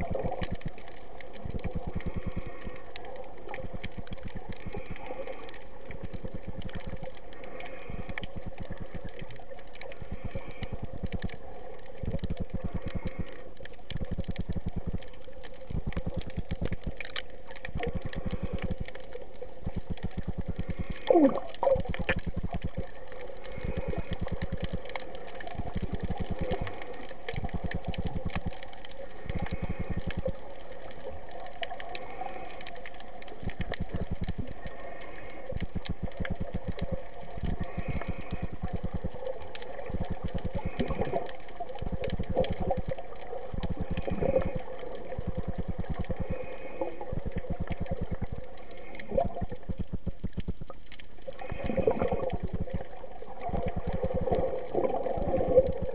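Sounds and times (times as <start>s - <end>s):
muffled underwater crackle: 0.0s - 55.9s.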